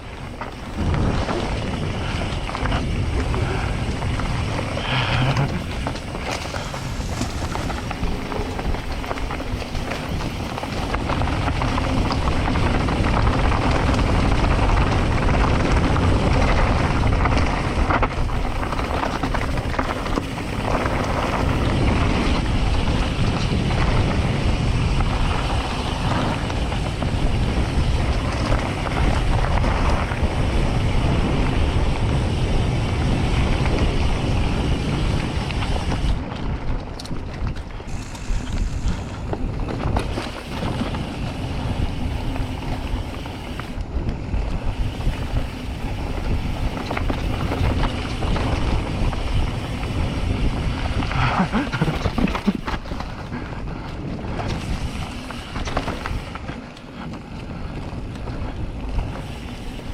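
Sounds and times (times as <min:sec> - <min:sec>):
bike rolling over dirt trail: 0:00.0 - 0:59.9
wind rushing over microphone: 0:00.0 - 0:59.9.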